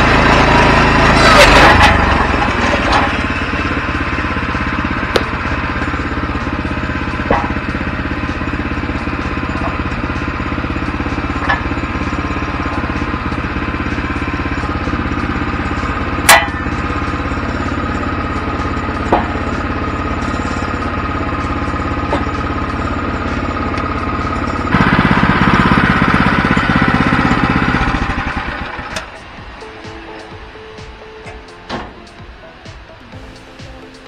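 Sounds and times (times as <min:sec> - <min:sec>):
sawmill engine idling: 0:00.0 - 0:34.0.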